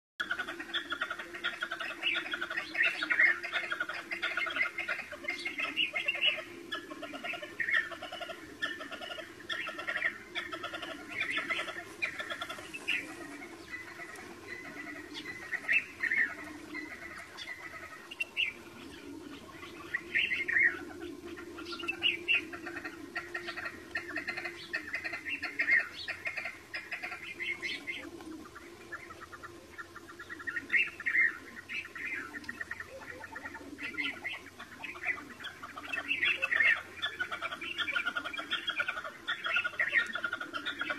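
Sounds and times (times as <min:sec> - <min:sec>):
partridges calling: 0:00.2 - 0:40.9.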